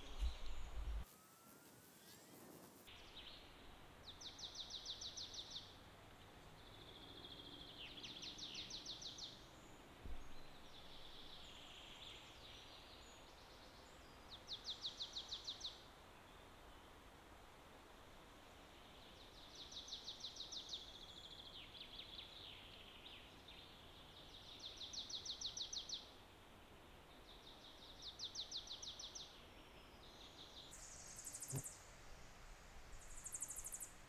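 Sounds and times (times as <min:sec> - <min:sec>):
faint outdoor ambience: 0:00.0 - 0:34.0.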